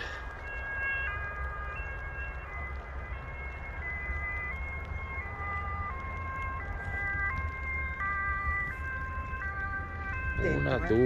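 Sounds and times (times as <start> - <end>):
electronic siren warning tones: 0.0 - 11.0
wind rumble on microphone: 0.0 - 11.0.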